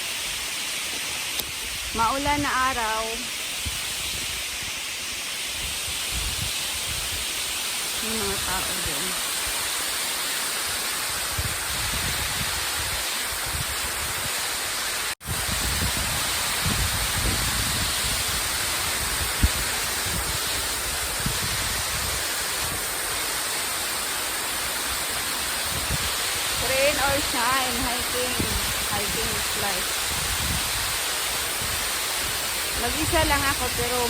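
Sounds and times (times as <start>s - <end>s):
rain hissing: 0.0s - 34.0s.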